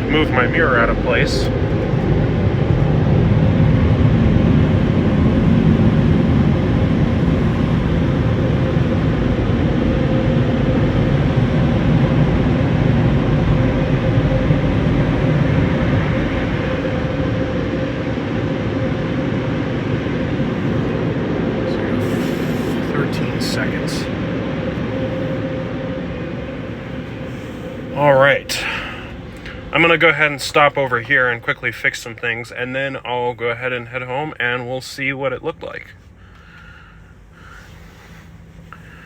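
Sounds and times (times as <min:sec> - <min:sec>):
air dryer blowers rushing: 0:00.0 - 0:31.6.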